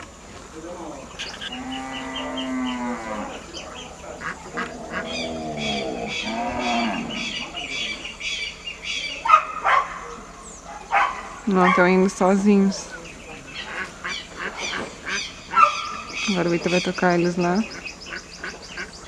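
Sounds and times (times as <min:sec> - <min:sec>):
ducks quacking: 0:01.0 - 0:19.0.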